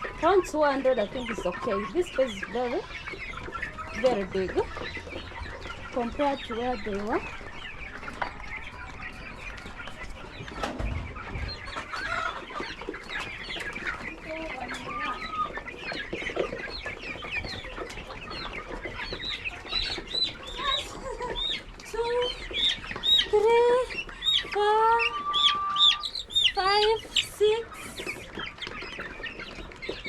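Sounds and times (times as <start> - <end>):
hens clucking and calling: 0.0 - 30.0.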